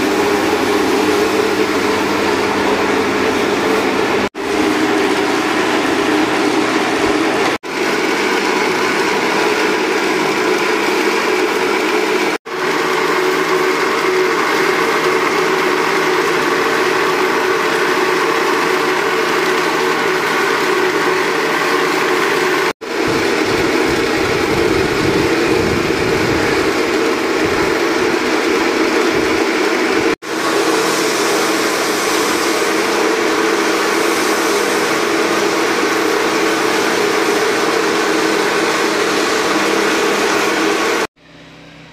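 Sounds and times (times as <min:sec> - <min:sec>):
machine drone with hiss: 0:00.0 - 0:41.9.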